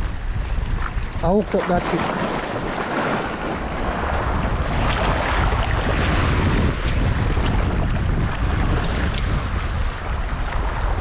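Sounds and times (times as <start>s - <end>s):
small waves washing ashore: 0.0s - 11.0s
wind buffeting microphone: 0.0s - 11.0s.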